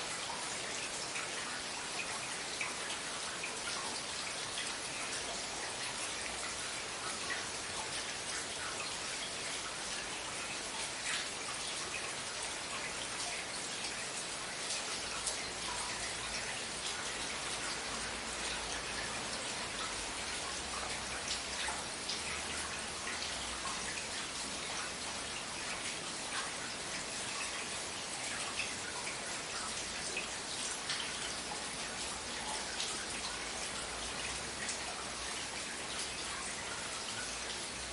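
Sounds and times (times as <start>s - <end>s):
drops and drips ticking: 0.0s - 37.9s
rain falling: 0.0s - 37.9s.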